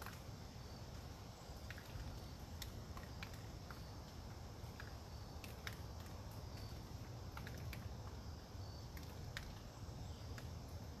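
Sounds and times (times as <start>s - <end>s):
low rumble of wind: 0.0s - 11.0s
raindrops pattering on leaves: 0.0s - 11.0s.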